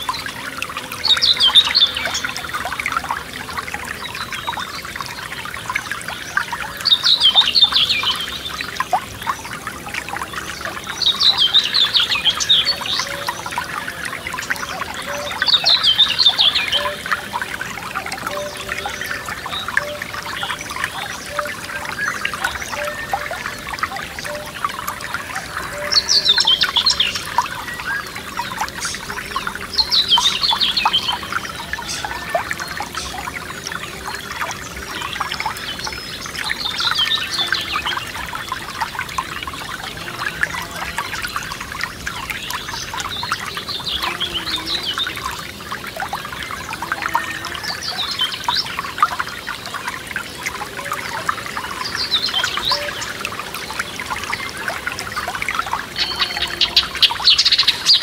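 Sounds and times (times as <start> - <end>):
songbird singing: 0.0 - 58.0
stream trickling and babbling: 0.0 - 58.0.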